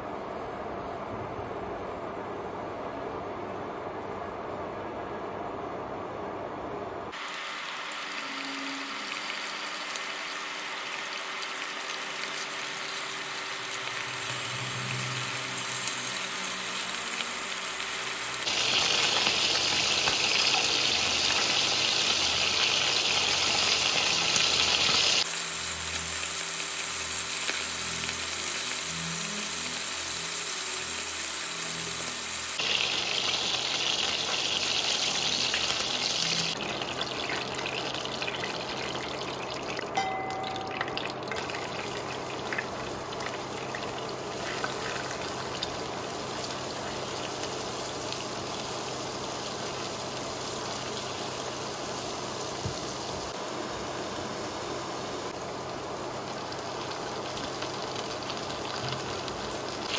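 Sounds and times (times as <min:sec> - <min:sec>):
chicken sizzling in hot oil: 0:07.1 - 0:59.9.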